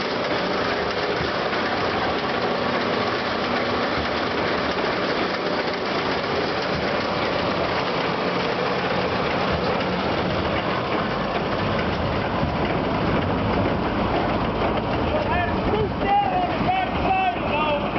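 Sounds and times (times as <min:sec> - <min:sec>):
baler mechanical clatter: 0:00.0 - 0:17.9
tractor engine: 0:00.0 - 0:17.9.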